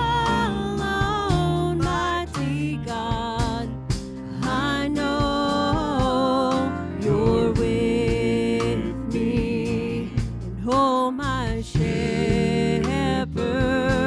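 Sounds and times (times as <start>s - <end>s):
gospel song singing: 0.0s - 14.0s
instrumental backing with steady beat: 0.0s - 14.0s.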